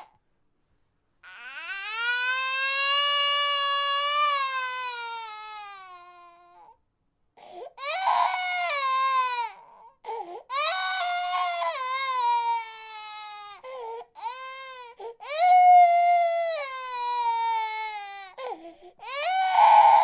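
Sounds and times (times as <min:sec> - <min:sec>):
baby crying: 0:01.2 - 0:06.8, 0:07.7 - 0:20.0.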